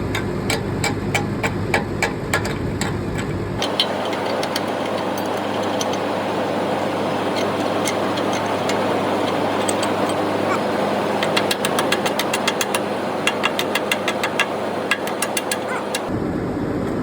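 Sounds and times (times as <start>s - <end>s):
excavator diesel engine running: 0.0s - 16.8s.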